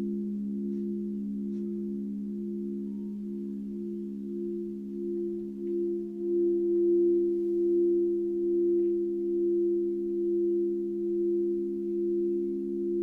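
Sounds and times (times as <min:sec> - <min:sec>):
singing bowls ringing: 0:00.0 - 0:13.0.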